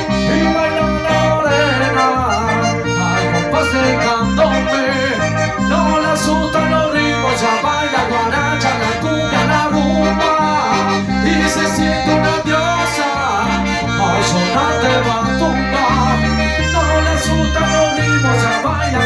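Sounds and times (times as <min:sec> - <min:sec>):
latin music with bass line: 0:00.0 - 0:19.0.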